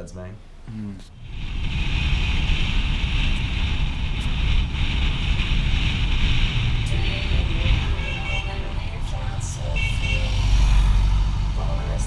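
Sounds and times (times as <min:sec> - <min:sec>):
wind buffeting microphone: 0:01.2 - 0:11.7.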